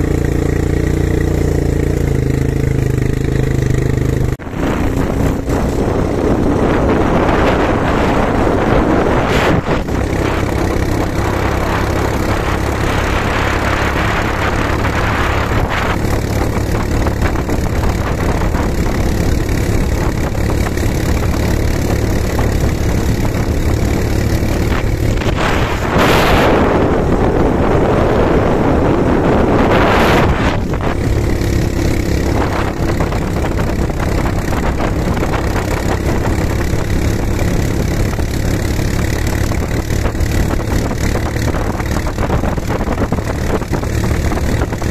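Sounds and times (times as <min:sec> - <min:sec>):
quad bike engine running: 0:00.0 - 0:44.9
loud rushing noise: 0:02.3 - 0:44.9.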